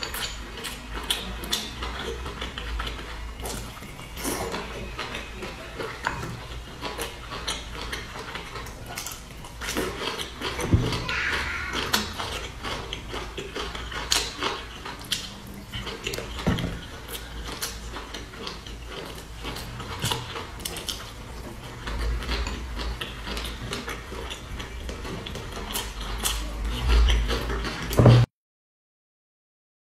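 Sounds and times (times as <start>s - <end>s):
person chewing food: 0.0s - 28.3s.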